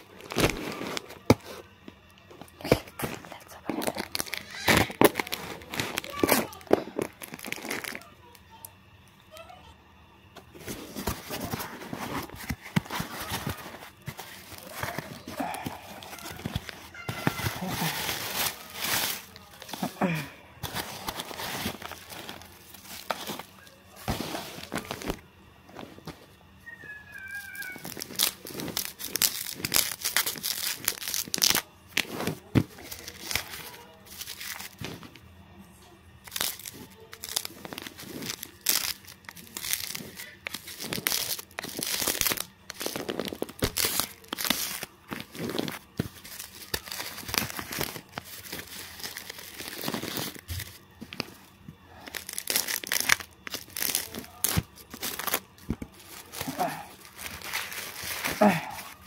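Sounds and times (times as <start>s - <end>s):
plastic wrapping tearing and crinkling: 0.0s - 8.4s, 10.6s - 35.2s, 36.2s - 59.0s.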